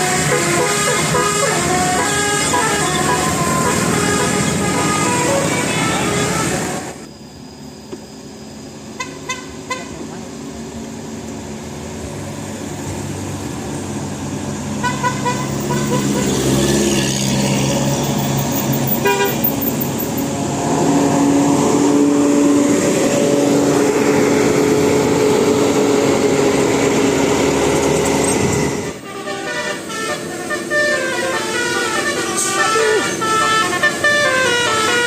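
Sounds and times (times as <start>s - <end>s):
bus multi-trumpet horn: 0.0s - 7.0s, 8.9s - 10.1s, 14.7s - 35.0s
bus engine: 0.0s - 35.0s.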